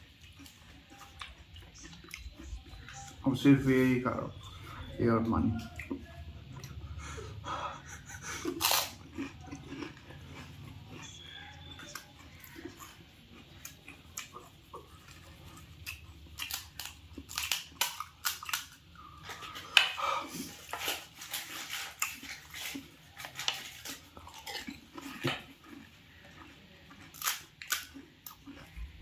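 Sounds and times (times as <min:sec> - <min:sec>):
crisp shells crunching while chewed: 0:00.0 - 0:03.4, 0:08.4 - 0:29.0.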